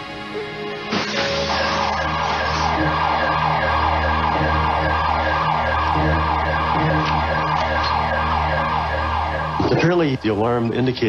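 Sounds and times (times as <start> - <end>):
burglar alarm siren warbling: 1.2 - 10.8.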